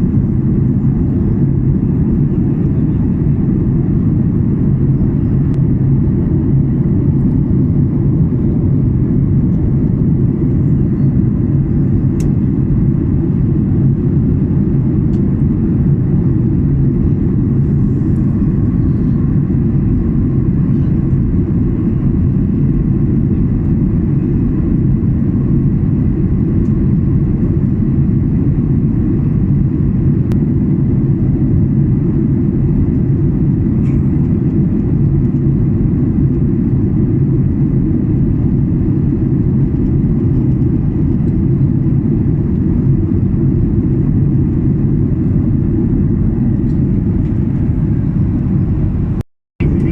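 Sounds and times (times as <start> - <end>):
airliner cabin drone: 0.0 - 49.9.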